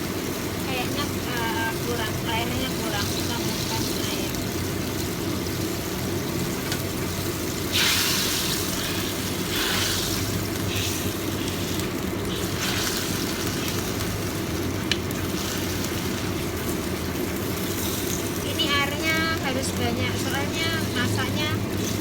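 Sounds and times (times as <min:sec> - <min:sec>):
steady low hum: 0:00.0 - 0:22.0
water hissing in hot pan: 0:00.0 - 0:22.0.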